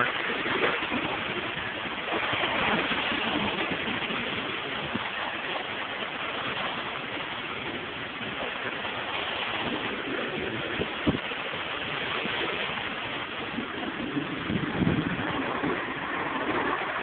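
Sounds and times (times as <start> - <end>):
water spraying onto a car: 0.0 - 17.0.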